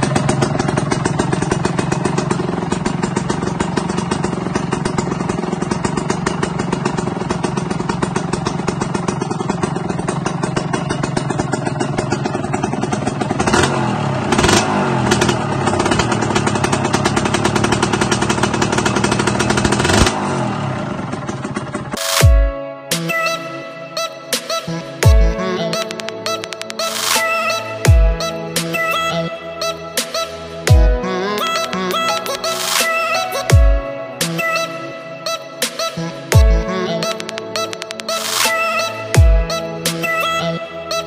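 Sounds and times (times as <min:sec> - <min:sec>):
two-stroke engine idling and revving: 0:00.0 - 0:41.0.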